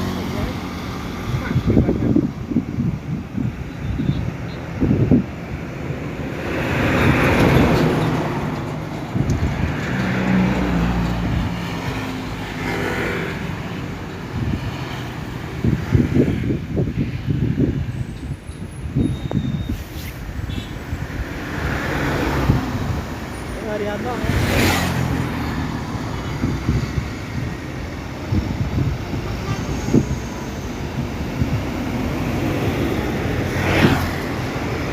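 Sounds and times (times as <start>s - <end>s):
trucks driving past: 0.0s - 34.9s.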